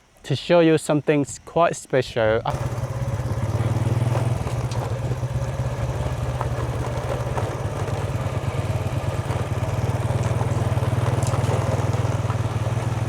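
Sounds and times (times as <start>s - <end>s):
vehicle engine running: 2.5s - 13.0s.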